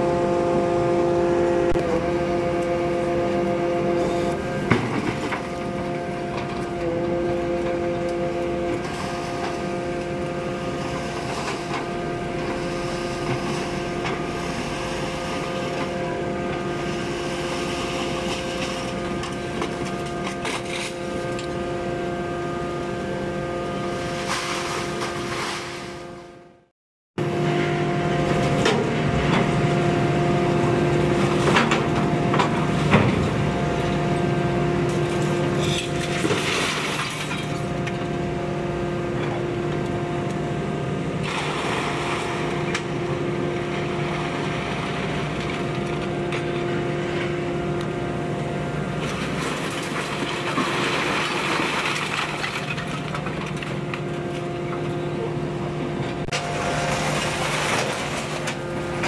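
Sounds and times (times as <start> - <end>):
heavy machinery humming: 0.0 - 59.0.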